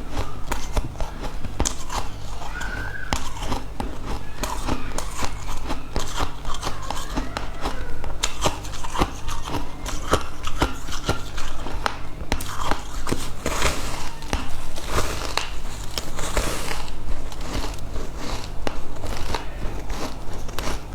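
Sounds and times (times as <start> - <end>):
crunchy food chewing: 0.0 - 20.9
low steady hum: 0.0 - 20.9.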